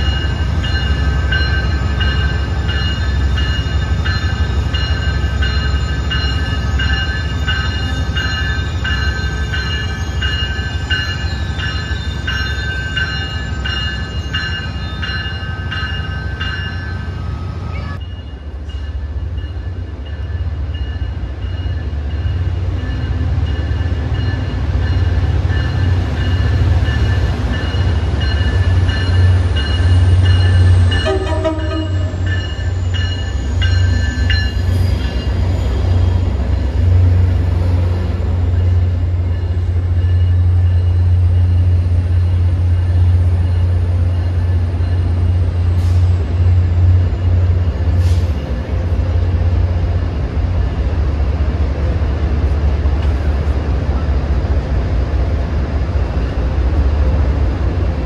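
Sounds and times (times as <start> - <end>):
train wheel squeal: 0.0 - 48.9
deep train rumble: 0.0 - 58.0.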